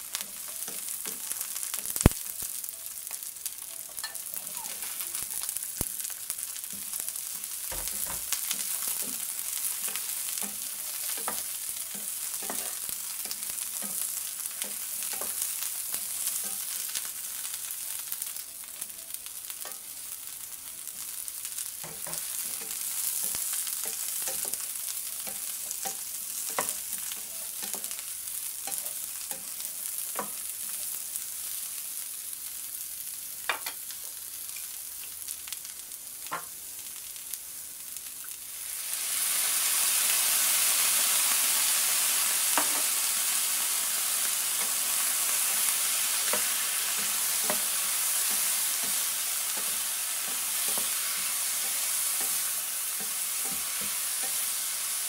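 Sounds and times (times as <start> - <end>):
vegetables sizzling in a wok: 0.0 - 55.0.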